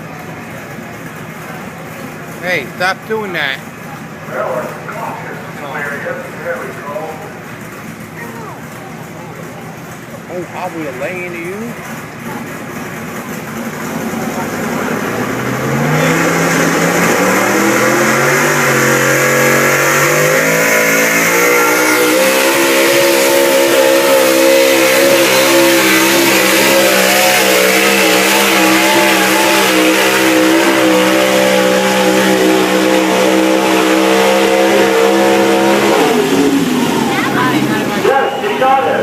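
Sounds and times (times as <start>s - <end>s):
truck engine revving high: 0.0s - 39.0s.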